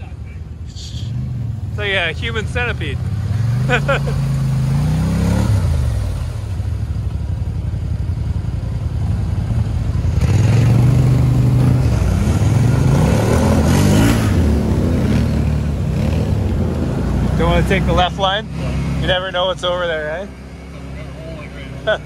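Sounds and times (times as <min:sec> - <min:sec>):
atv engines revving: 0:00.0 - 0:22.0.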